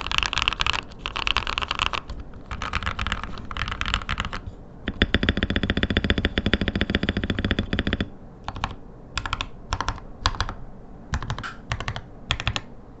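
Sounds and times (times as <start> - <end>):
mechanical keyboard typing: 0.0 - 12.7.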